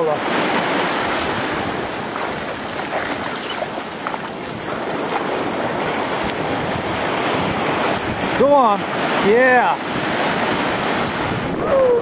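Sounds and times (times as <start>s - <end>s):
surf washing through shallow water: 0.0s - 12.0s
wind on microphone: 0.1s - 12.0s.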